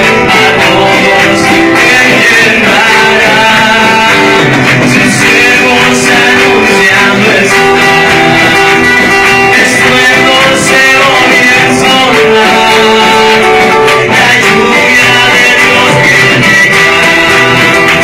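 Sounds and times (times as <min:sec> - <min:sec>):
guitars: 0:00.0 - 0:18.0
live band playing: 0:00.0 - 0:18.0
person singing: 0:00.0 - 0:18.0.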